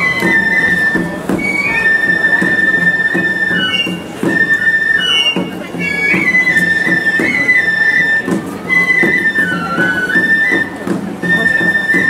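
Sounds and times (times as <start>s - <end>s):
high flute melody: 0.0s - 12.0s
regular drum beats: 0.0s - 12.0s.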